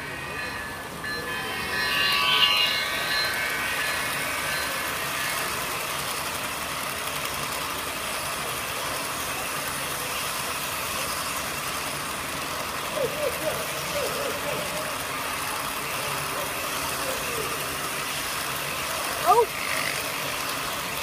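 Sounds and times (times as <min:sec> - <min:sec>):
model trains rolling on tracks: 0:00.0 - 0:21.0.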